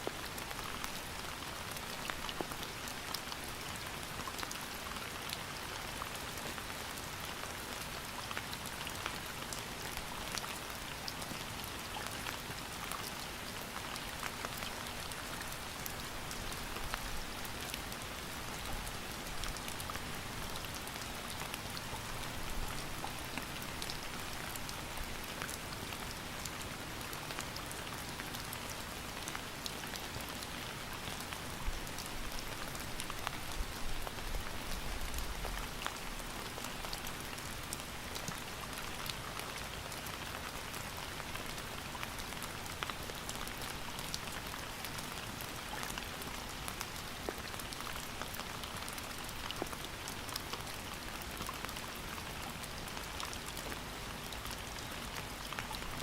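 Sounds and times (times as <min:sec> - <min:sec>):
raindrops ticking on surface: 0:00.0 - 0:56.0
steady rain hiss: 0:00.0 - 0:56.0.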